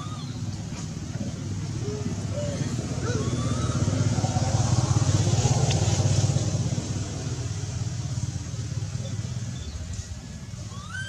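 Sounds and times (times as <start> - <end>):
vehicle engine passing: 1.0 - 10.6.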